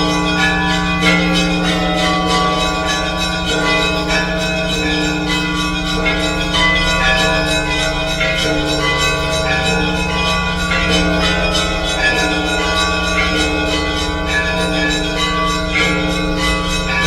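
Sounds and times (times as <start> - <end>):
small church bells ringing rapidly: 0.0 - 17.0.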